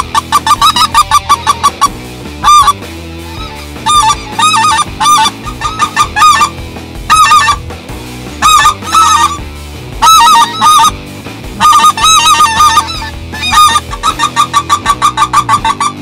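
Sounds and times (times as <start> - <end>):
goose call clucks: 0.0 - 7.6, 8.4 - 9.4, 10.0 - 11.0, 11.6 - 16.0
goose call honks: 0.0 - 7.6, 8.4 - 9.4, 10.0 - 11.0, 11.6 - 16.0.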